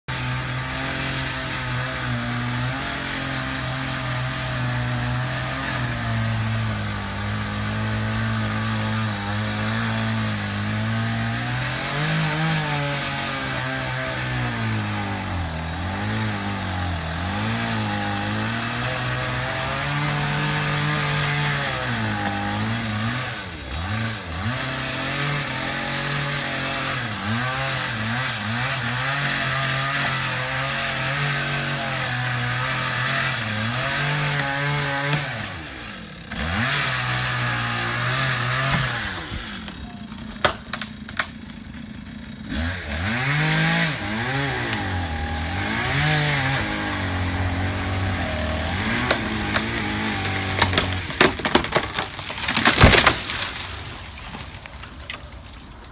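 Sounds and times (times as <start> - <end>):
chainsaw cutting wood: 0.1 - 55.9.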